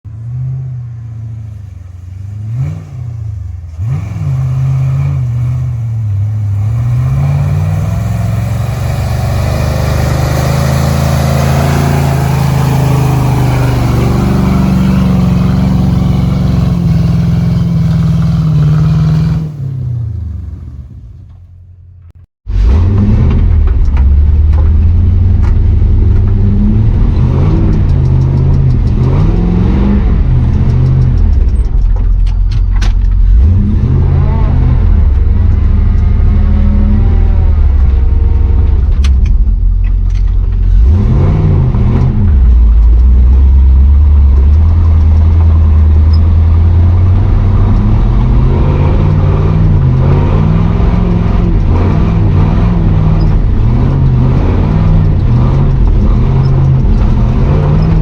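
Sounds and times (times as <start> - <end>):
pickup engine revving: 0.1 - 21.5, 22.5 - 31.8, 33.1 - 39.6, 40.4 - 58.0.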